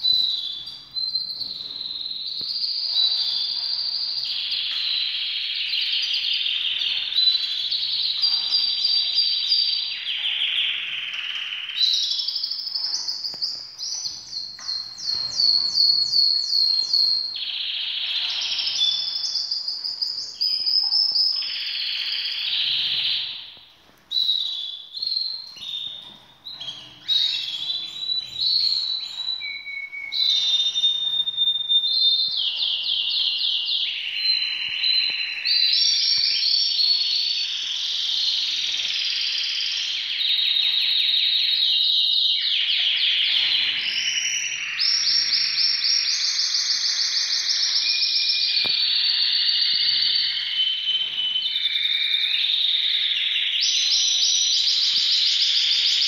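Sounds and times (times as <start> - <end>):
canaries singing trills: 0.0 - 56.0.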